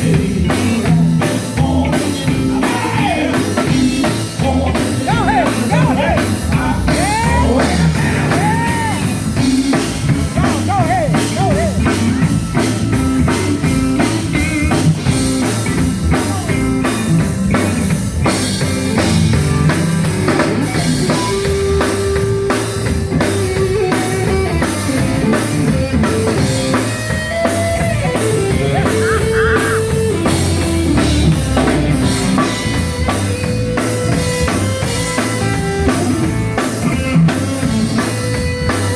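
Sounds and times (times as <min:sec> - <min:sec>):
drum kit beat: 0:00.0 - 0:38.9
guitar: 0:00.0 - 0:38.9.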